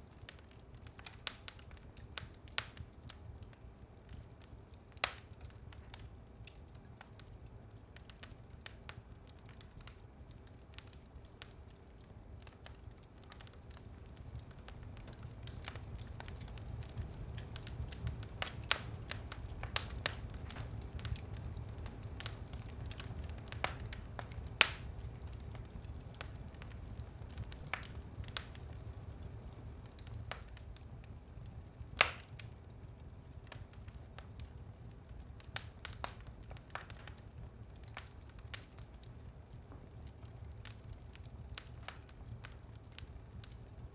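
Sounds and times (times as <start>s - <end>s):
fire low rumble: 0.0s - 43.9s
wood fire crackling and popping: 0.0s - 43.9s
burning logs snapping: 0.2s - 43.6s.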